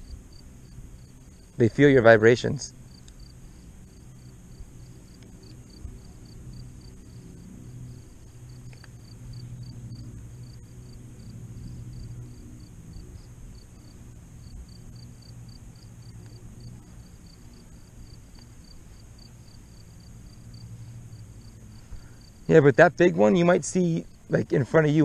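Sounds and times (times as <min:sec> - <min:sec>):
crickets chirping: 0:00.0 - 0:25.0
high insect buzz: 0:00.0 - 0:25.0
low hum: 0:00.0 - 0:25.0.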